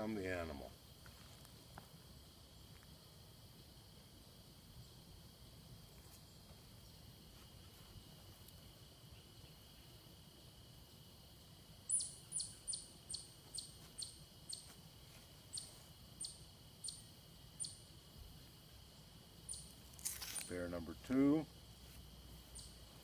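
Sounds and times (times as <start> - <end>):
outdoor ambience: 0.0 - 23.0.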